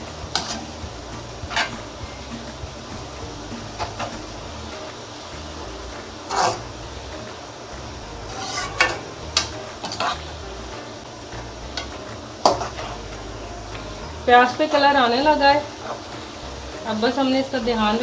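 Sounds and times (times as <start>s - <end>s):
spoon scraping and clinking on pan: 0.0s - 16.8s
onions sizzling in hot oil: 0.0s - 18.0s.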